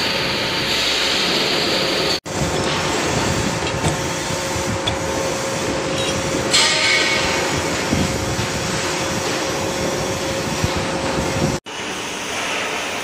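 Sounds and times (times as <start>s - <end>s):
hydraulic motor and pump drone: 0.0s - 13.0s.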